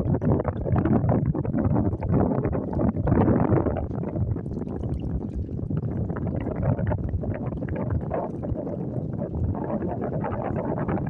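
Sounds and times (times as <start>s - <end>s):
wind rumbling on microphone: 0.0s - 11.0s
water lapping and sloshing: 0.3s - 11.0s.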